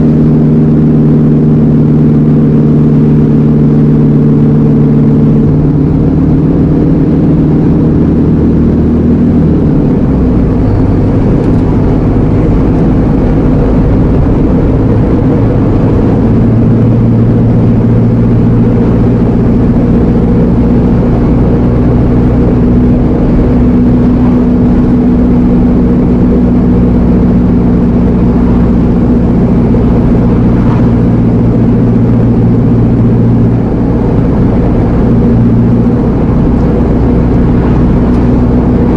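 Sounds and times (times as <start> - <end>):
lorry diesel engine running: 0.0 - 38.9.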